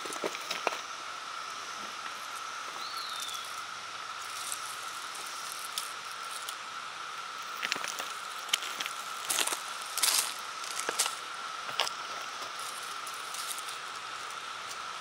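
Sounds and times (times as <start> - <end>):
dry leaves crackling and rustling: 0.0 - 15.0
faint high-pitched hum: 0.0 - 15.0.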